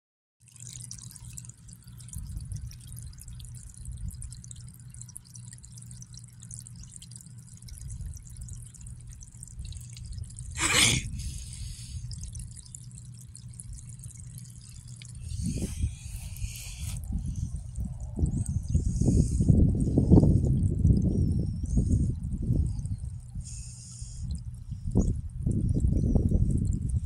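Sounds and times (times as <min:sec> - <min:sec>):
water trickling from hose: 0:00.4 - 0:27.0.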